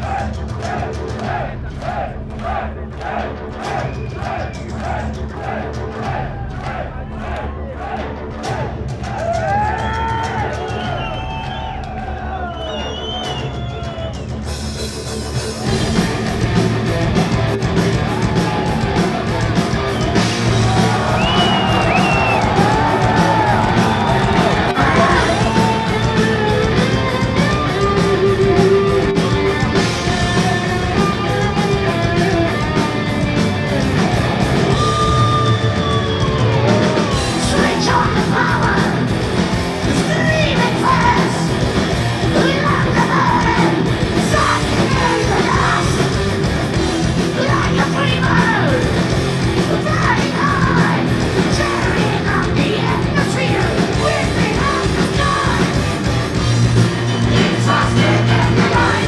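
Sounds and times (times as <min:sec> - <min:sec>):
heavy metal band playing: 0:00.0 - 0:59.0.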